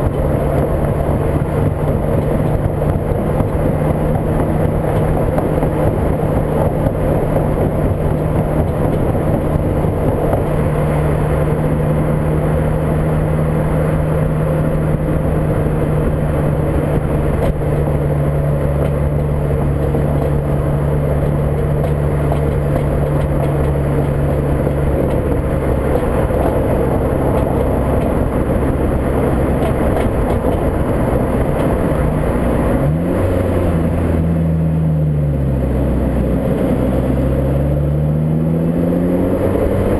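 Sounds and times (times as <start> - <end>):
car engine droning: 0.0 - 39.9
wind and road noise: 0.0 - 39.9.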